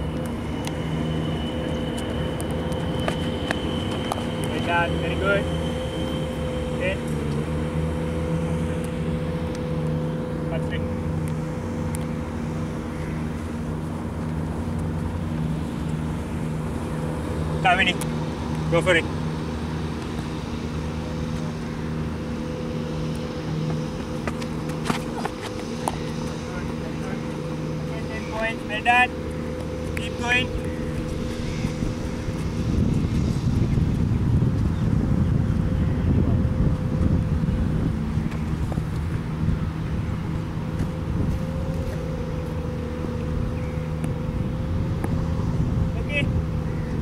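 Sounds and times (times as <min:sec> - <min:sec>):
engine running steadily: 0:00.0 - 0:47.0
thin mechanical hum: 0:00.0 - 0:47.0
wind buffeting microphone: 0:00.0 - 0:47.0.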